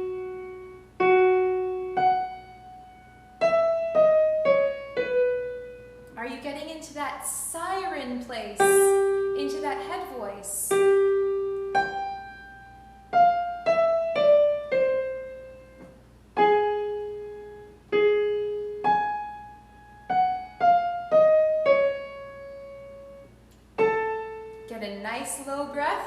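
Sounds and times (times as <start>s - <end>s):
piano playing: 0.0s - 7.0s, 7.8s - 26.0s.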